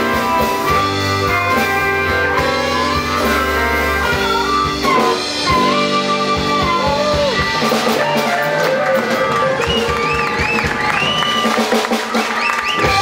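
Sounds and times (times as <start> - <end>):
harmonica: 0.0 - 11.5
electric lead guitar: 0.0 - 13.0
live blues band: 0.0 - 13.0.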